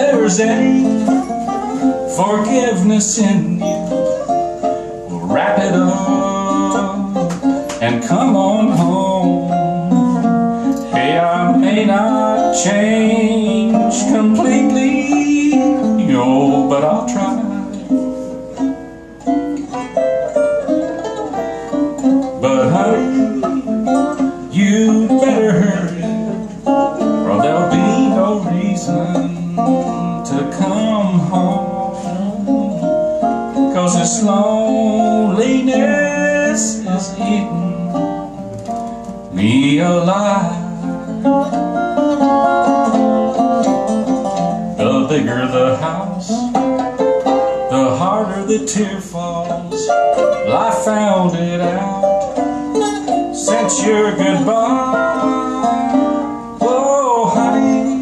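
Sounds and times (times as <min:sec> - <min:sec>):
resonator guitar picking: 0:00.0 - 0:58.0
small plucked string instrument: 0:00.0 - 0:58.0.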